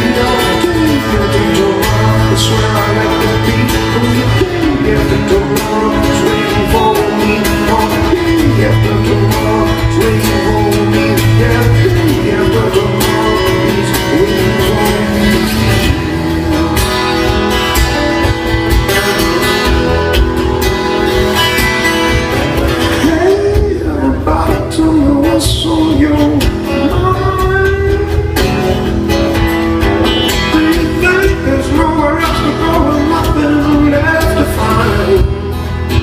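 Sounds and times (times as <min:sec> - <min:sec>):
acoustic guitars playing: 0:00.0 - 0:36.0.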